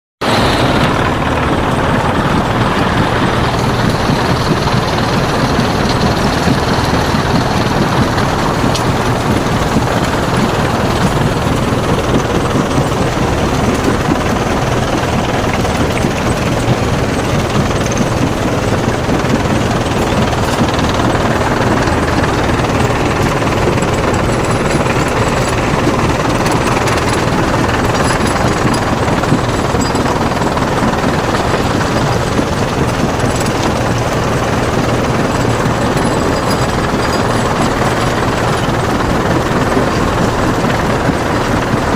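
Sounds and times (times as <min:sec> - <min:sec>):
heavy construction machinery running: 0:00.2 - 0:41.9.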